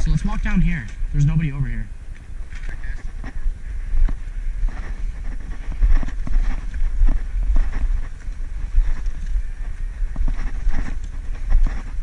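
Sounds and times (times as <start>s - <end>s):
steady low rumble: 0.0s - 12.0s
footsteps through grass: 2.4s - 12.0s.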